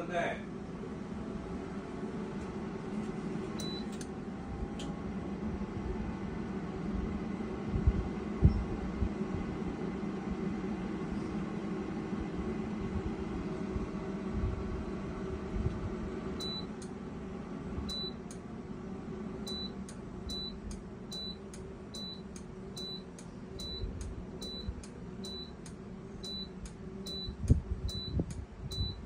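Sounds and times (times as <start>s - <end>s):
air fryer fan humming: 0.0s - 29.0s.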